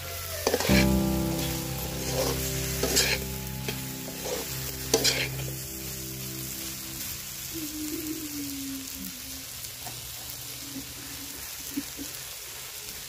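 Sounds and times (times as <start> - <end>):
vegetables sizzling in metal pan: 0.0 - 13.0.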